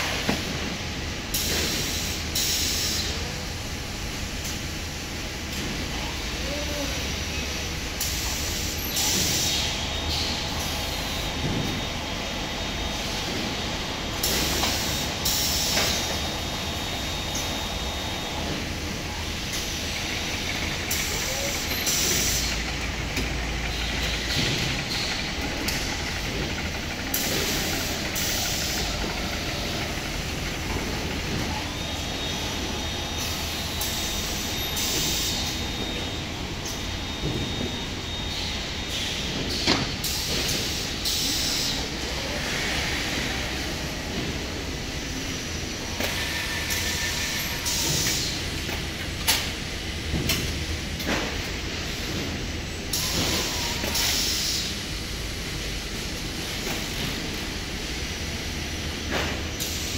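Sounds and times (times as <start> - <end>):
conveyor machinery din: 0.0 - 59.9.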